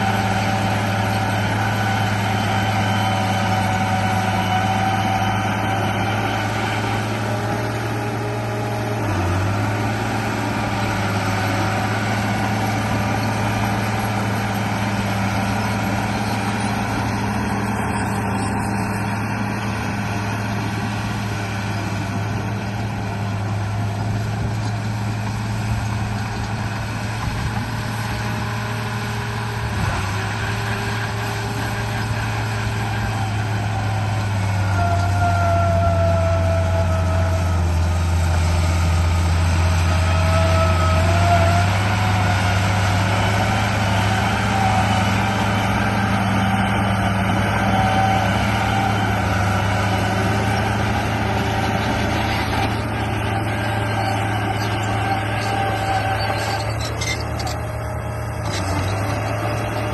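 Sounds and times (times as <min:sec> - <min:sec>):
low engine-like drone: 0:00.0 - 0:59.9.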